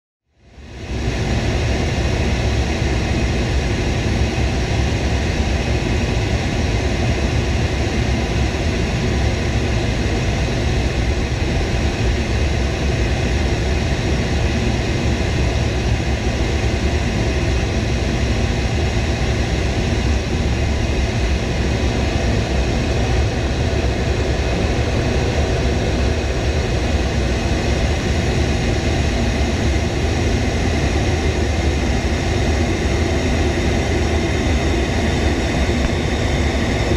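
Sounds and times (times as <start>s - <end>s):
jet engines droning in flight: 0.3s - 36.9s.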